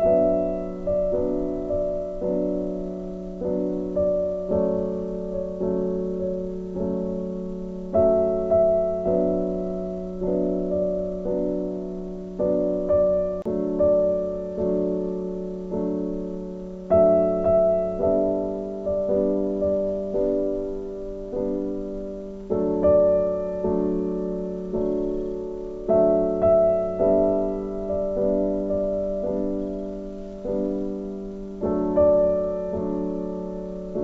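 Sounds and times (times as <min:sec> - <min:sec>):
slow piano chords: 0:00.0 - 0:34.0.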